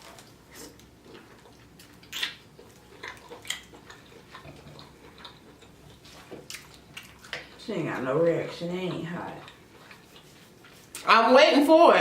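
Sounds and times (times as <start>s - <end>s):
person chewing wet food: 0.0s - 11.1s.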